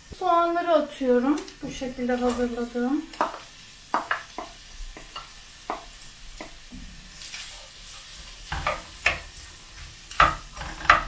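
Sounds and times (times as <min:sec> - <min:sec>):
onions sizzling in a frying pan: 0:00.0 - 0:11.0
wooden spoon scraping a pan: 0:01.9 - 0:11.0.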